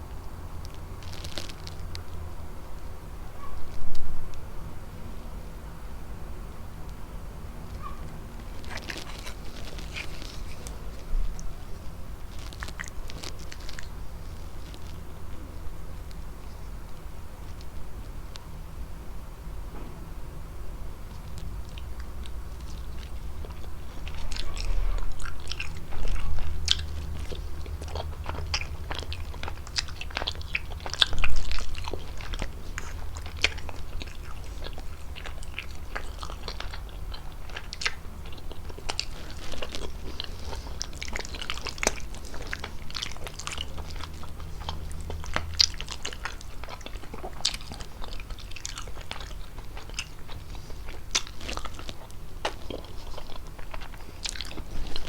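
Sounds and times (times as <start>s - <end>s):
person chewing food: 0.6s - 2.2s, 7.7s - 18.5s, 21.1s - 55.0s.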